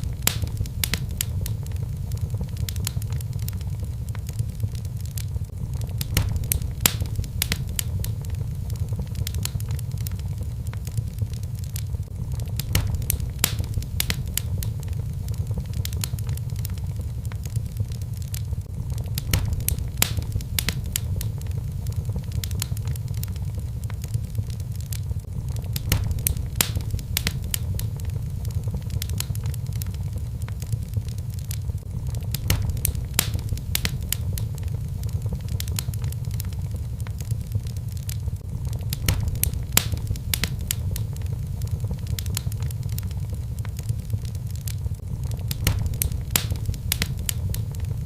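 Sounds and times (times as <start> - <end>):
log fire crackling and popping: 0.0 - 48.0
low rumble of flames: 0.0 - 48.0.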